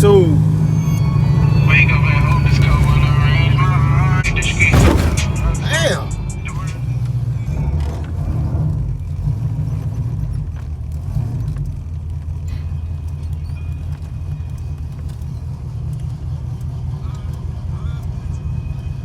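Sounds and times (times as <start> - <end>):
engine low rumble: 0.0 - 19.0.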